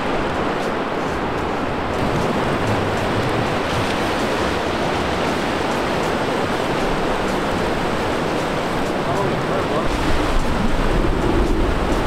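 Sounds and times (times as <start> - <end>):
surf breaking on beach: 2.0 - 12.0.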